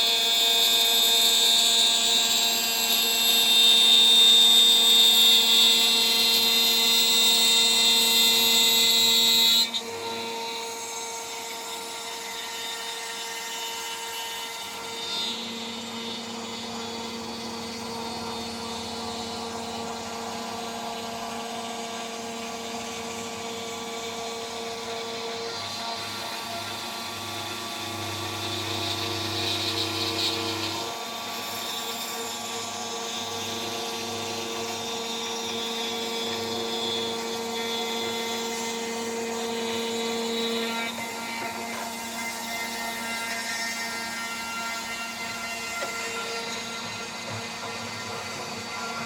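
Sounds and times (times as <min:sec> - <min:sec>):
router cutting high-pitched screech: 0:00.0 - 0:49.0.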